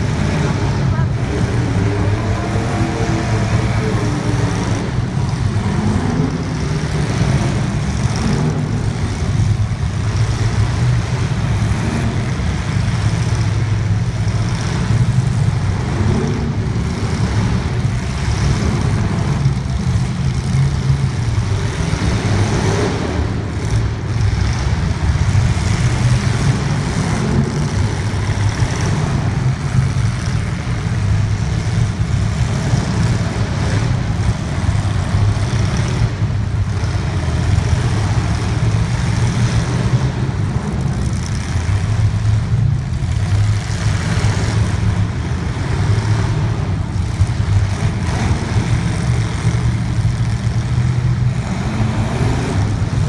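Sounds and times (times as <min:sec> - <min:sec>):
racing engines droning: 0:00.0 - 0:53.0.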